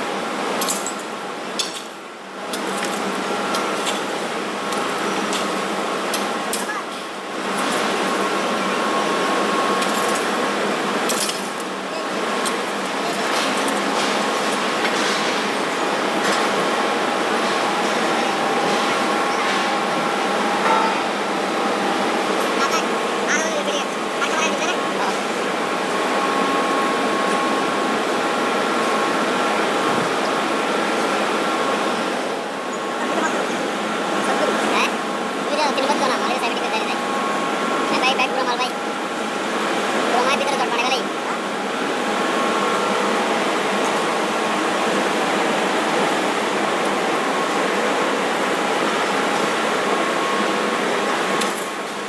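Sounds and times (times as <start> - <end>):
furnace blower hum: 0.0 - 52.0.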